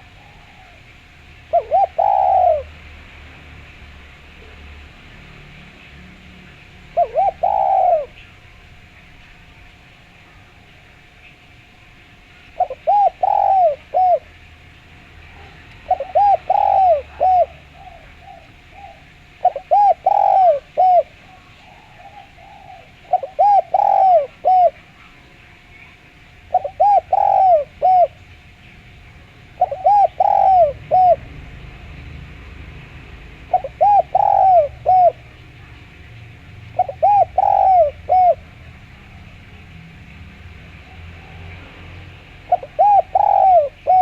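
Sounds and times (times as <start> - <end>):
dove cooing: 0.0 - 3.0, 4.4 - 44.0.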